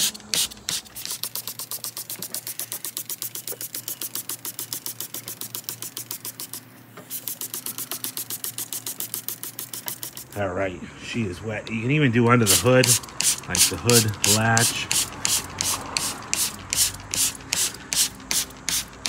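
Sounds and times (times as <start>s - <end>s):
spray bottle trigger clicks: 0.0s - 10.4s, 11.7s - 19.0s
spray hissing: 0.0s - 19.0s.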